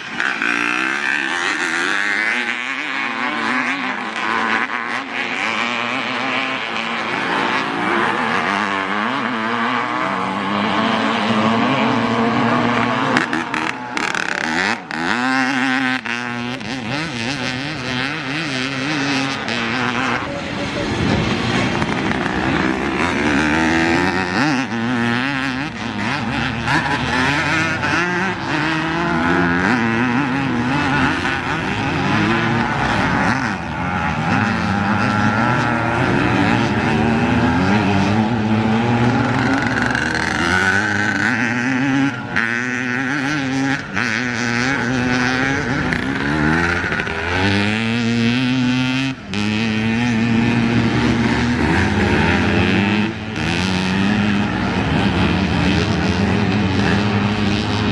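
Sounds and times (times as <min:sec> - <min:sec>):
dirt bike engines revving: 0:00.0 - 0:57.9.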